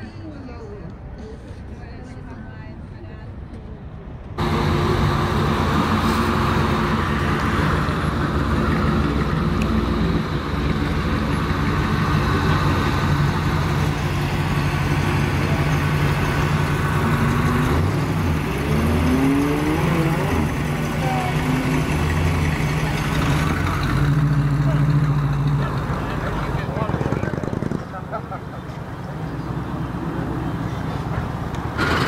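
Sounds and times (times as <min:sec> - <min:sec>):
car engines driving past: 0:04.4 - 0:32.0.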